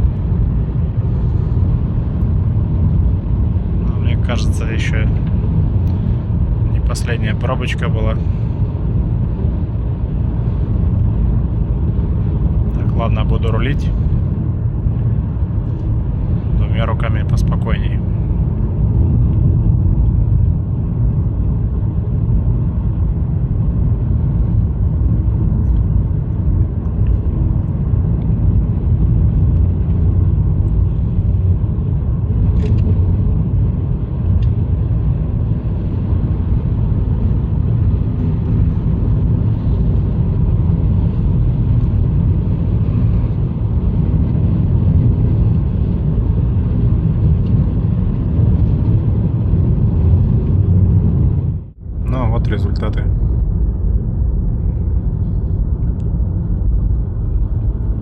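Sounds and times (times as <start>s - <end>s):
road and tyre noise in car: 0.0s - 58.0s.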